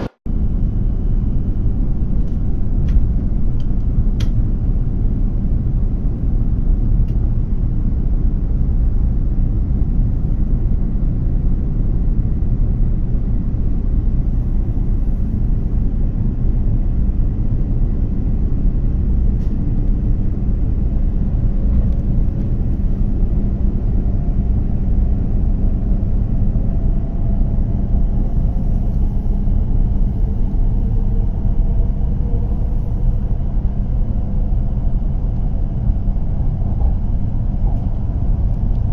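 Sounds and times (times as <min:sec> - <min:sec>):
train cabin rumble: 0:00.0 - 0:38.9.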